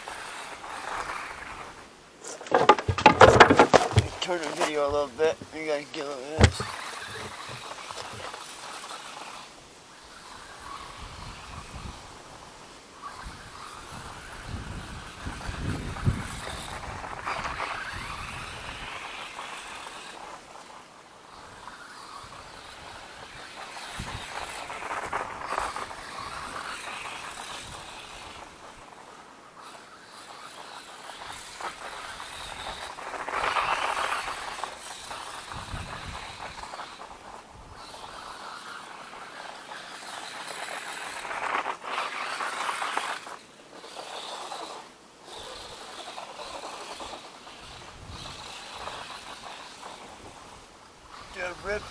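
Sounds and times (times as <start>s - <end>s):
rc truck motor driving through snow: 0.0s - 51.9s.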